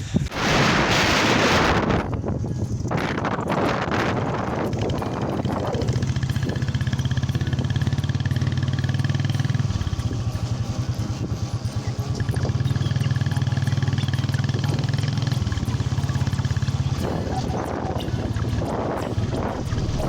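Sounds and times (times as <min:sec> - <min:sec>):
motorcycle engine pulsing: 0:00.0 - 0:20.0.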